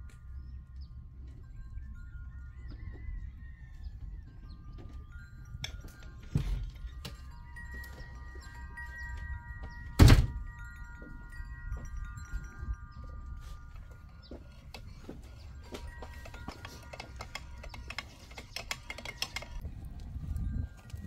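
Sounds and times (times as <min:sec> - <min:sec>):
wind chimes ringing: 0:00.0 - 0:21.0.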